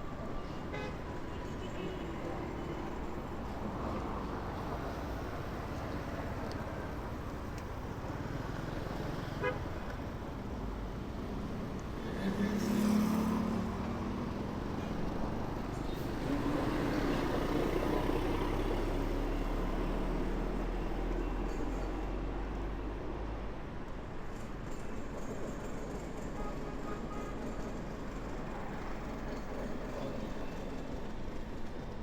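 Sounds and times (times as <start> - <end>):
city traffic hum: 0.0 - 32.0.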